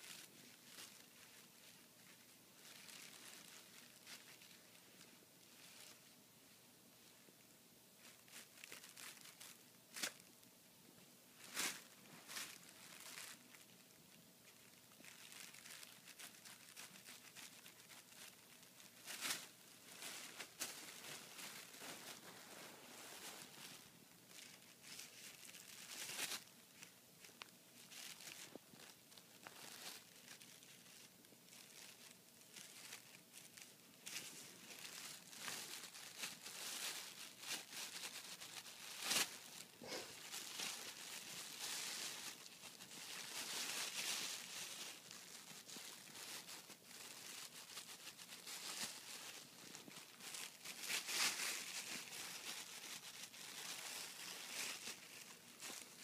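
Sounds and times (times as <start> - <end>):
plastic bag crinkling: 0.0 - 6.1, 8.0 - 10.4, 11.4 - 56.0.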